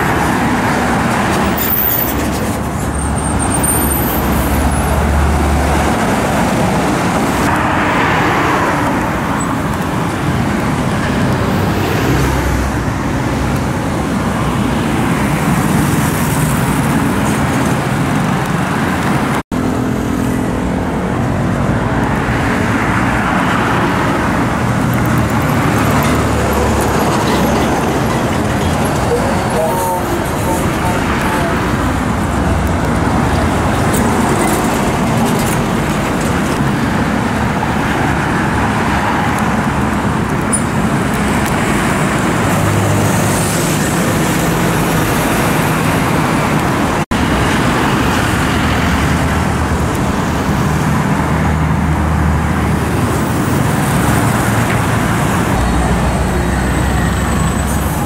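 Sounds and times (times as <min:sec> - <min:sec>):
heavy vehicles passing: 0:00.0 - 0:58.0
traffic engine drone: 0:00.0 - 0:58.0.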